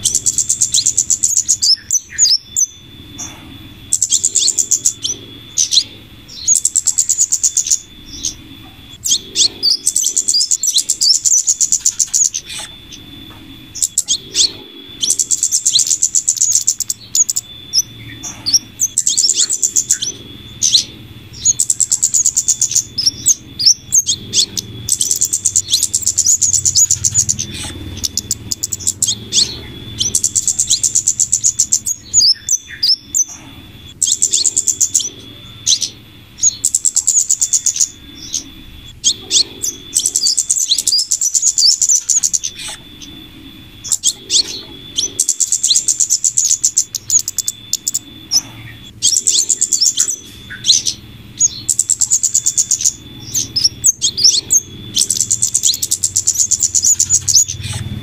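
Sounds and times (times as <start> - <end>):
faint low hum: 0.0 - 58.0
rapid high ticking bird chirps: 0.0 - 58.0.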